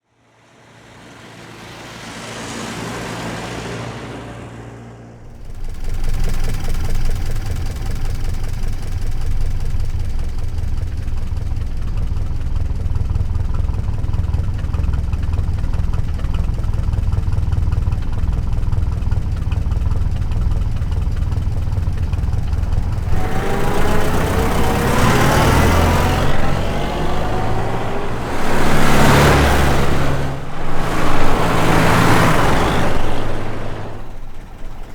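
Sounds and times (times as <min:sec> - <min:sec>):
car engine running and revving: 0:05.2 - 0:34.9
starter motor whir: 0:05.2 - 0:34.9.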